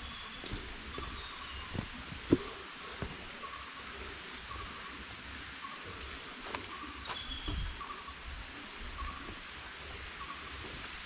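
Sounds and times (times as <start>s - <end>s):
background hiss: 0.0s - 11.0s
insects buzzing: 0.0s - 11.0s.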